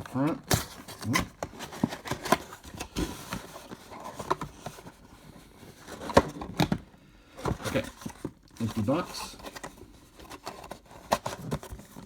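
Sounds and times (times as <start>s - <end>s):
cardboard box being handled: 0.0s - 6.8s, 7.4s - 12.0s.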